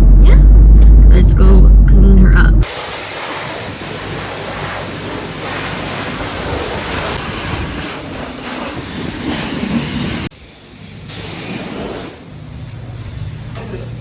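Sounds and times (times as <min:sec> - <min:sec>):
water spraying onto a car: 0:02.6 - 0:14.0.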